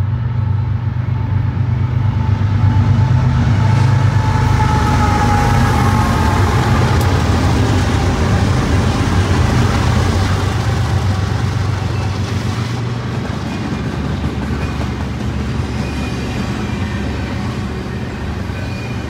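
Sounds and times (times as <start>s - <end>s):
diesel locomotive drone: 0.0s - 19.0s
train cars rolling on rails: 0.0s - 19.0s.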